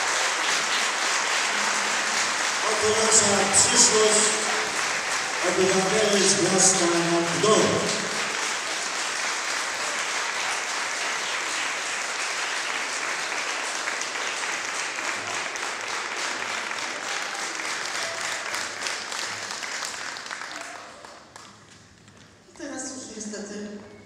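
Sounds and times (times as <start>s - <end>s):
audience applauding: 0.0s - 22.5s.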